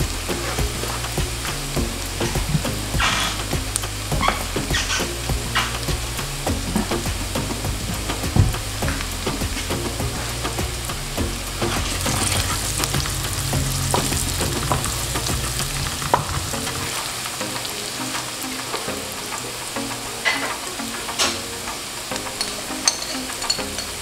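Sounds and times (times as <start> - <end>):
food sizzling in oil: 0.0 - 24.0.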